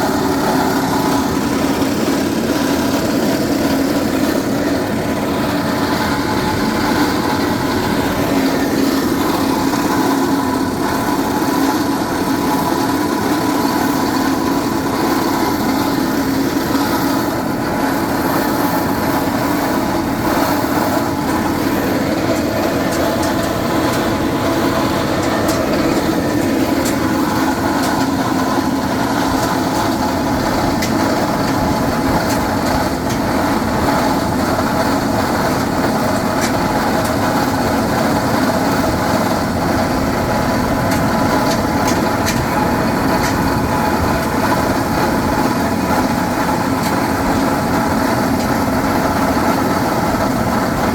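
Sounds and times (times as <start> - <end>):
drilling rig machinery drone: 0.0 - 50.9.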